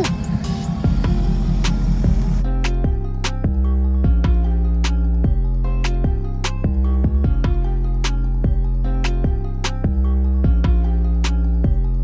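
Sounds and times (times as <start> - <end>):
electronic music with drums: 0.0 - 12.0.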